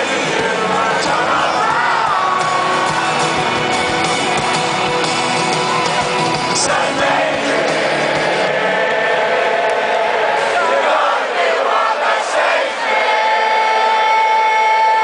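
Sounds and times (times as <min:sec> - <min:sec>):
crowd shouts and whoops: 0:00.0 - 0:15.0
stadium crowd singing: 0:00.0 - 0:15.0.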